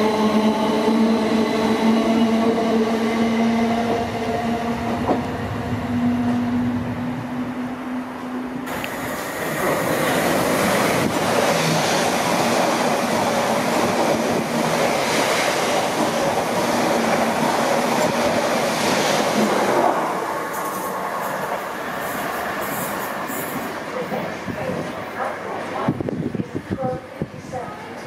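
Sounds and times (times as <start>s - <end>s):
train passing wheel and rail noise: 0.0s - 28.0s.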